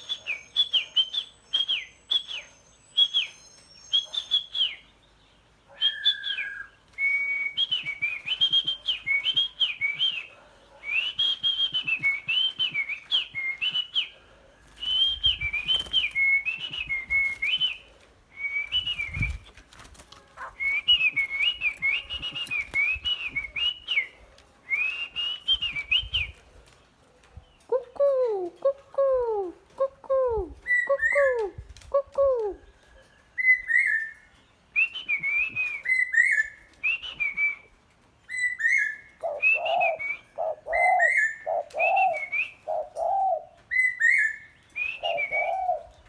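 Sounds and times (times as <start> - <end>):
songbird singing: 0.0 - 26.8, 27.4 - 46.0.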